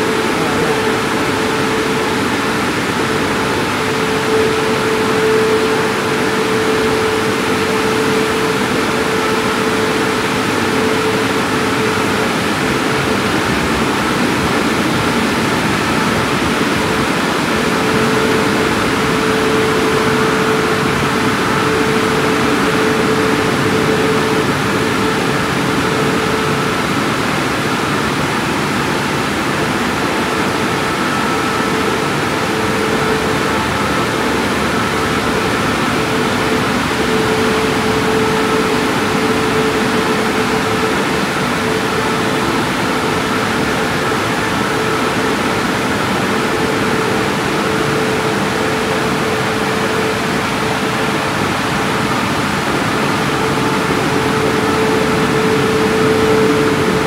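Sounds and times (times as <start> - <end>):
car wash rushing noise: 0.0 - 57.0
constant hum: 0.0 - 57.0.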